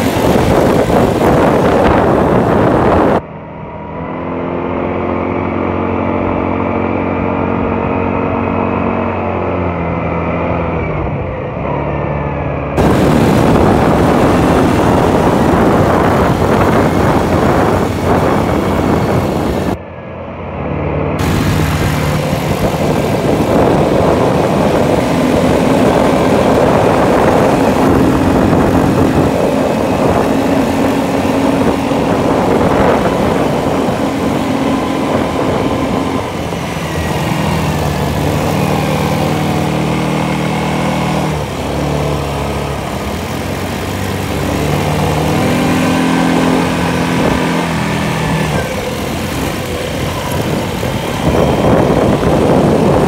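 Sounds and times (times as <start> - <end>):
quad bike engines running: 0.0 - 3.4, 12.3 - 19.8, 21.1 - 53.0
wind noise on microphone: 0.0 - 3.4, 12.6 - 19.9, 20.5 - 53.0.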